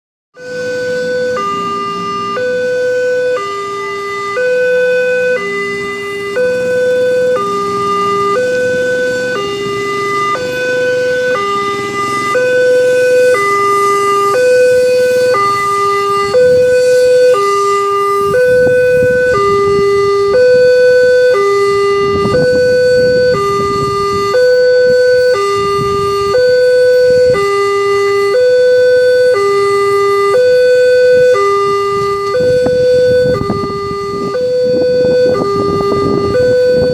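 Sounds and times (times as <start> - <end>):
low rumbling: 0.4 - 36.9
two-tone level-crossing alarm: 0.4 - 36.9.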